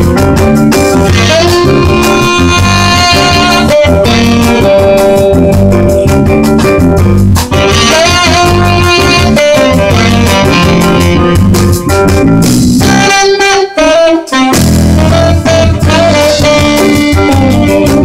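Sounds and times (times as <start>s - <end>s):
horn playing: 0.0s - 6.8s, 7.4s - 18.0s
bass: 0.0s - 18.0s
drum kit: 0.0s - 18.0s
electric guitar: 0.0s - 18.0s.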